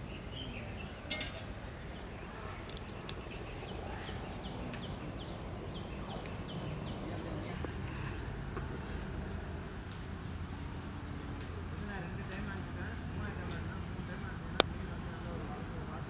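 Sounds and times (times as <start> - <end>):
bird chirping: 0.0 - 15.9.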